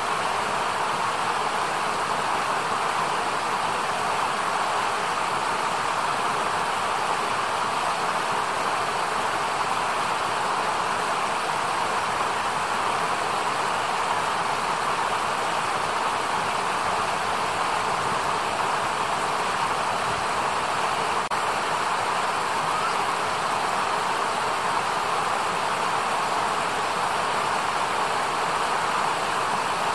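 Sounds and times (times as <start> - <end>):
stream rushing over rocks: 0.0 - 29.9.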